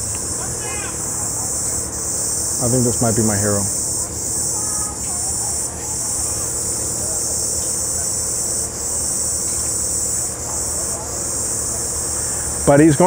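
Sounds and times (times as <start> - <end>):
crickets trilling: 0.0 - 13.0
low engine hum: 0.0 - 13.0.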